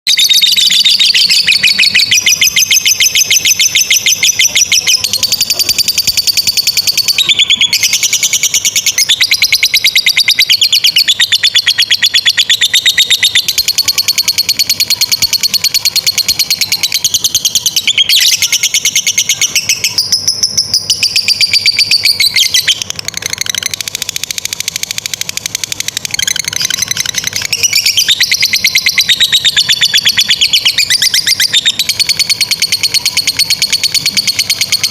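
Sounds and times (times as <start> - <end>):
bird high rapid trill: 0.1 - 34.9.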